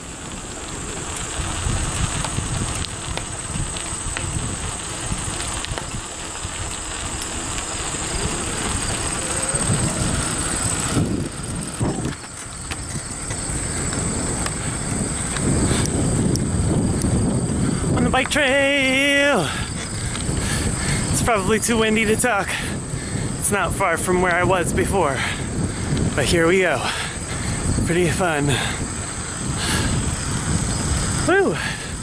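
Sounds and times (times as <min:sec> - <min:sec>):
high insect drone: 0:00.0 - 0:32.0
wind buffeting microphone: 0:00.0 - 0:32.0.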